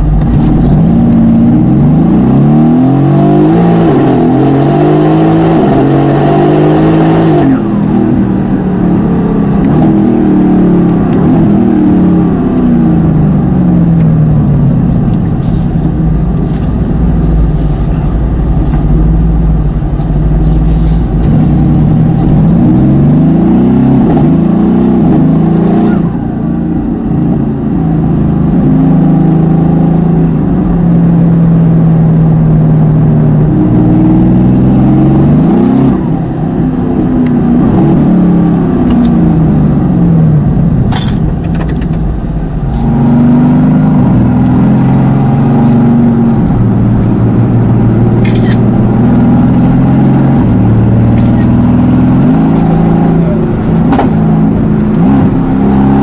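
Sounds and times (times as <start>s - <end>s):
car engine revving hard: 0.0s - 41.2s, 42.4s - 56.0s.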